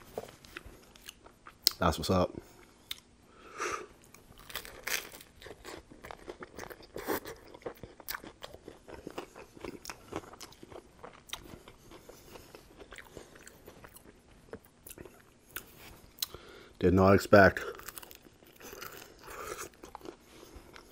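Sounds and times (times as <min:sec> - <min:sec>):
chewing and crunching sandwich: 0:00.0 - 0:01.8, 0:04.0 - 0:16.7, 0:17.6 - 0:20.9.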